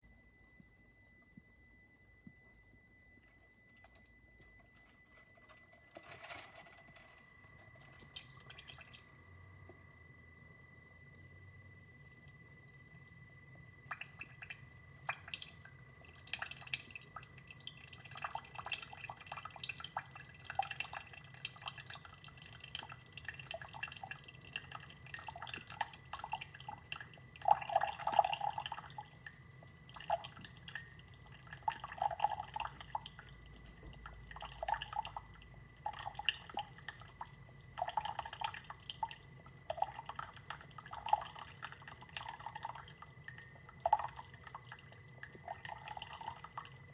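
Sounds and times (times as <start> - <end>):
coffee dripping into cup: 2.2 - 46.9.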